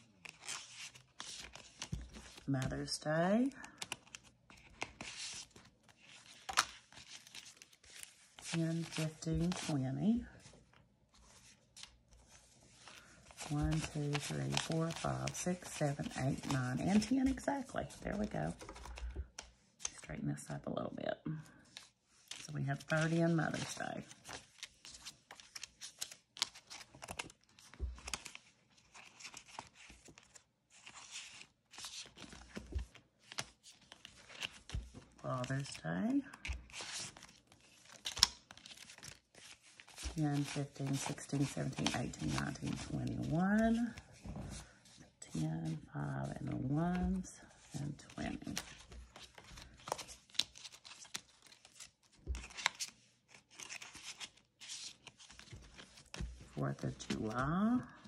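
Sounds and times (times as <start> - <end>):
paper bills rustling: 0.0 - 3.0, 3.6 - 20.0, 22.2 - 58.0.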